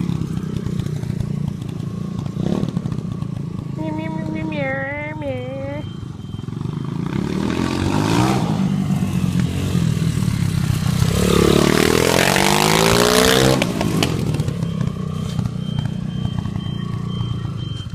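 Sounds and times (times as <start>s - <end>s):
motorbike engine revving: 0.0s - 17.9s.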